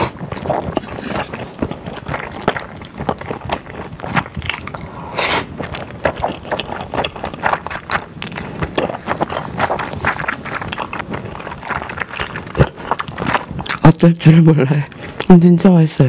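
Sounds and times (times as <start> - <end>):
wet mouth smacking and clicking: 0.0 - 13.9
person chewing noodles: 0.0 - 15.4.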